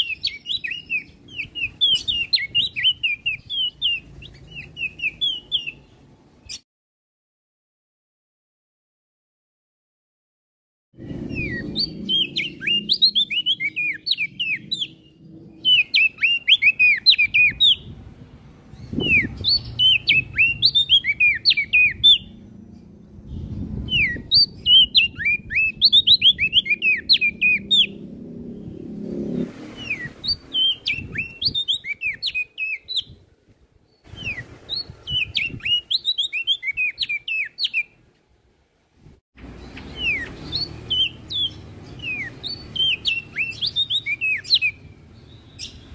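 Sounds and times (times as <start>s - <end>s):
songbird chirping: 0.0s - 6.6s, 11.0s - 38.4s, 39.4s - 45.9s.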